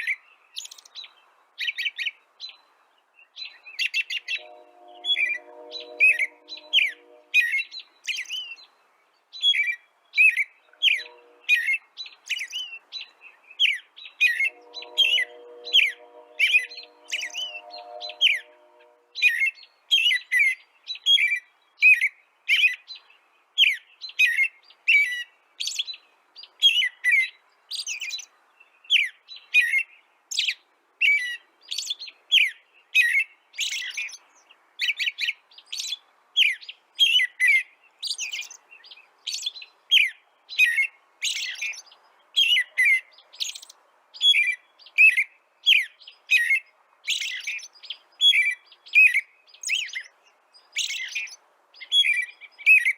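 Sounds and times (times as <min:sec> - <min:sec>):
small songbird chirping: 0:00.0 - 0:21.9, 0:27.6 - 0:52.9.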